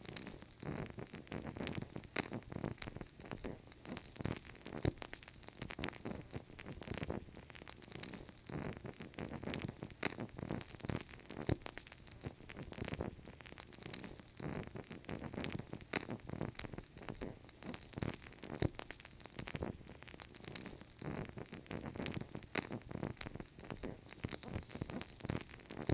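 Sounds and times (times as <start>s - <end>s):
fire crackling and popping: 0.0s - 25.9s.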